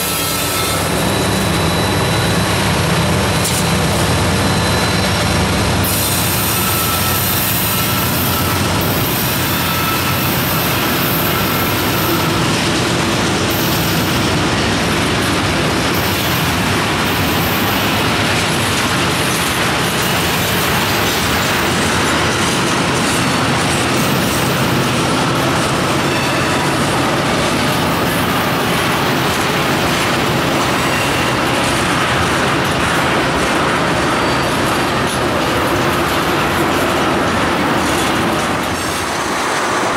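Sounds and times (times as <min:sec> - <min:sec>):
high wheel squeal: 0:00.0 - 0:14.4, 0:15.8 - 0:31.8, 0:33.8 - 0:35.7
freight train cars rolling: 0:00.0 - 0:39.9.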